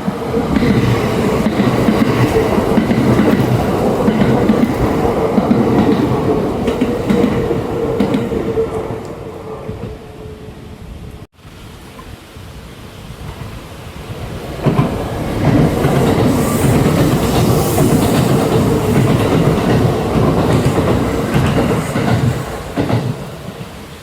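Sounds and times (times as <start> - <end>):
wheels clacking over rail joints: 0.0 - 9.2, 13.3 - 24.0
electric train passing: 0.0 - 11.3, 13.0 - 24.0.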